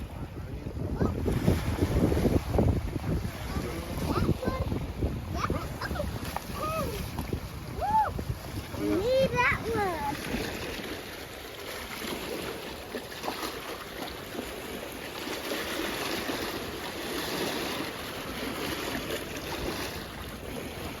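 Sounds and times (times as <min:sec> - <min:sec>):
small waves washing: 0:00.0 - 0:21.0.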